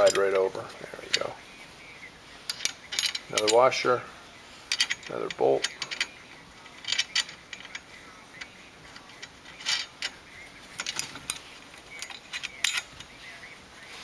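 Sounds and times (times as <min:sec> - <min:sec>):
metal hardware clinking and rattling: 0:00.0 - 0:01.4, 0:02.5 - 0:04.0, 0:04.6 - 0:13.2.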